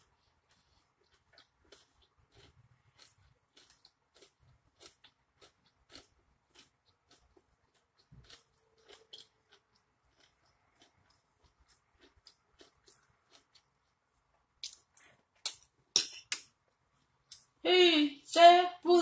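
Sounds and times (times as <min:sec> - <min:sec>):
person chewing meat: 0:00.0 - 0:15.6.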